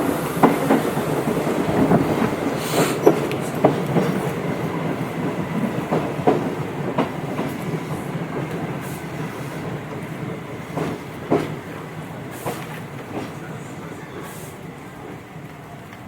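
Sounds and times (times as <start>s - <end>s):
wheels clicking over rail joints: 0.3s - 16.0s.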